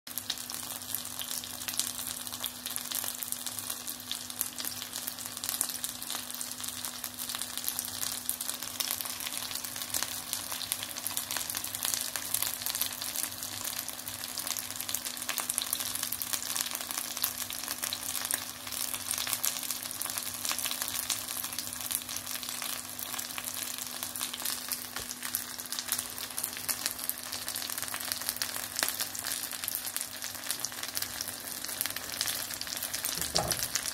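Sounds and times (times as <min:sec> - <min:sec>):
meat sizzling in oil: 0:00.1 - 0:33.9.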